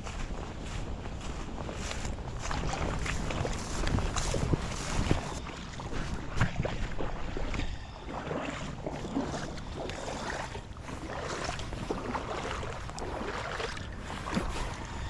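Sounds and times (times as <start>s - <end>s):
footsteps: 0.0s - 15.0s
wind rumble on microphone: 0.0s - 15.0s.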